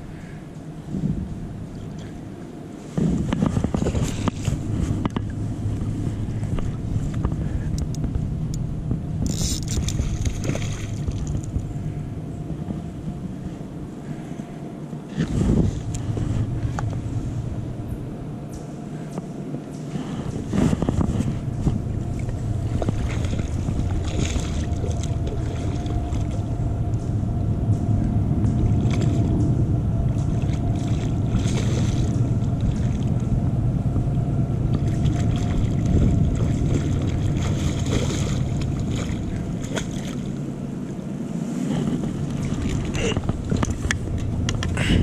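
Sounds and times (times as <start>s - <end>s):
creek water rumbling: 0.0s - 45.0s
wind on microphone: 0.0s - 45.0s.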